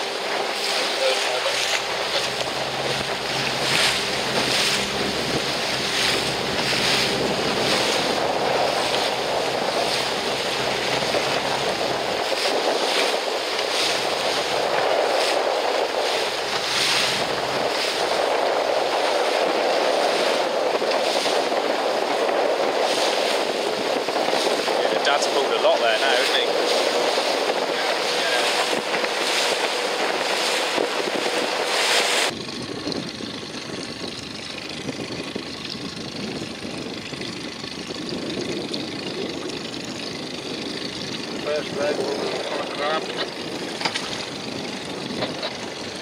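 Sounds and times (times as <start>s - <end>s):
waves on open sea: 0.0s - 46.0s
wind buffeting microphone: 0.0s - 46.0s.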